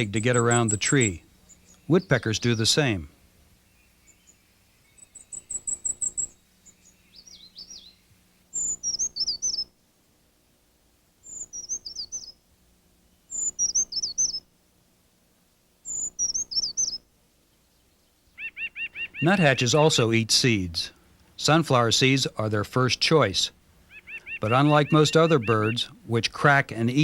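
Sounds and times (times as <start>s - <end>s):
bird singing high thin songs: 0.0s - 9.8s, 11.2s - 12.4s, 13.0s - 14.5s, 15.8s - 22.4s, 23.8s - 27.0s
faint low hum: 0.0s - 27.0s.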